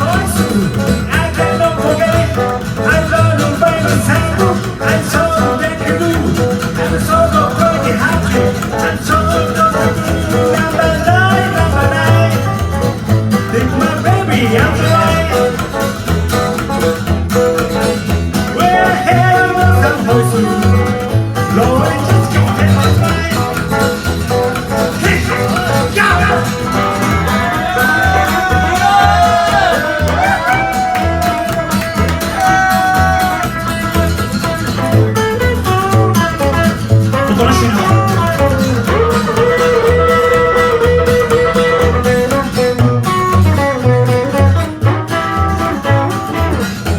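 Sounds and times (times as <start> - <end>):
lead guitar line bending in pitch: 0.0 - 46.9
live rock band playing: 0.0 - 46.9.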